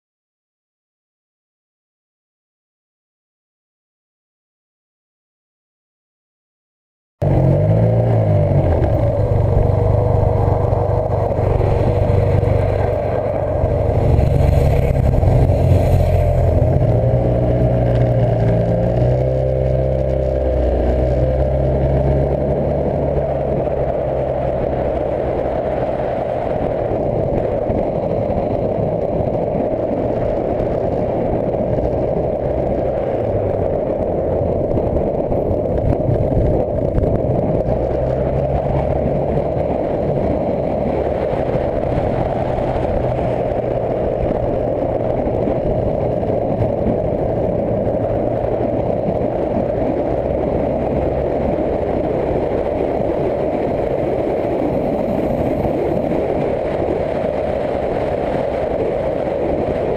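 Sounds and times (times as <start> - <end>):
motorcycle engine running: 7.2 - 59.9.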